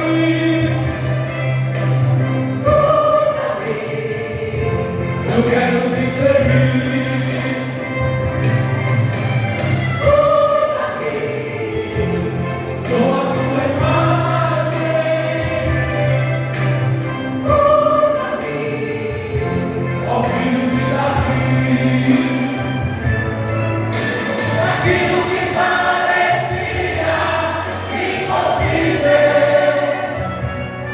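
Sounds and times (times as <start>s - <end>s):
vocal group singing in harmony: 0.0s - 8.4s, 10.0s - 23.0s, 24.3s - 30.9s
instrumental accompaniment: 0.0s - 30.9s.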